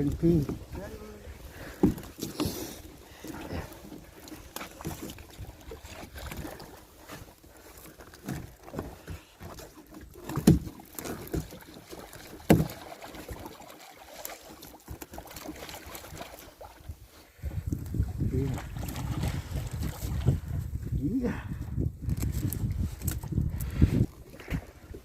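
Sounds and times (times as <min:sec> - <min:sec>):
knocks and clunks of boat handling: 0:00.0 - 0:16.6, 0:21.5 - 0:25.0.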